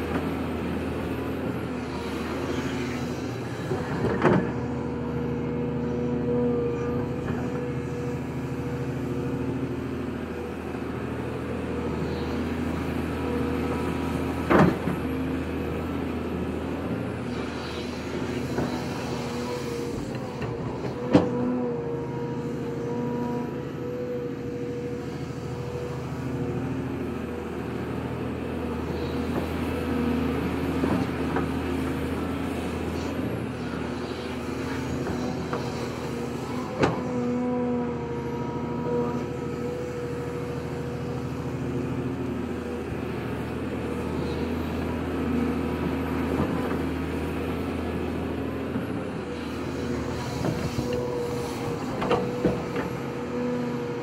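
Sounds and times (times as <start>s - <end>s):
excavator diesel engine whining: 0.0s - 54.0s.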